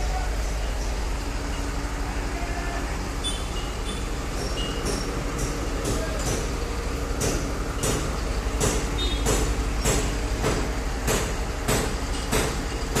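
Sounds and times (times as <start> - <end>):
concrete pump hissing clatter: 0.0 - 13.0
diesel engine drone: 0.0 - 13.0.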